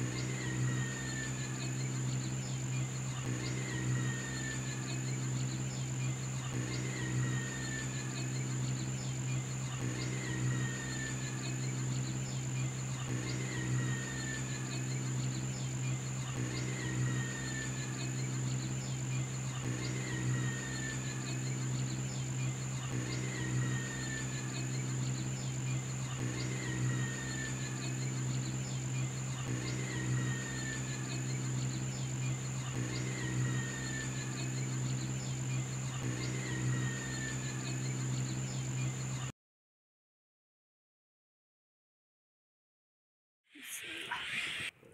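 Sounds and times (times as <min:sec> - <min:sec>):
cricket-like chirring: 0:00.0 - 0:39.3
low hum: 0:00.0 - 0:39.3.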